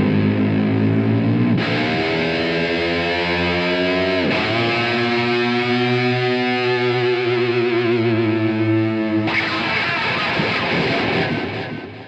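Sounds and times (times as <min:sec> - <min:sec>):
distorted electric guitar whammy bar: 0:00.0 - 0:12.0.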